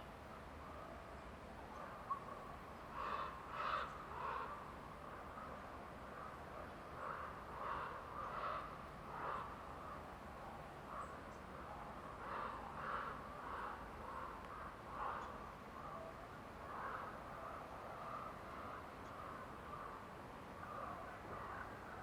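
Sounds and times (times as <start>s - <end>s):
forest background: 0.0s - 22.0s.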